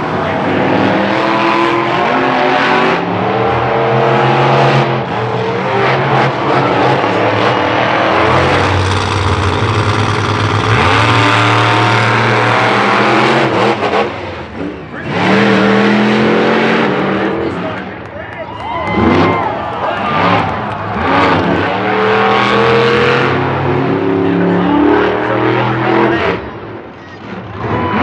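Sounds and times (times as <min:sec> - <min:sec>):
monster truck engines revving: 0:00.0 - 0:28.0.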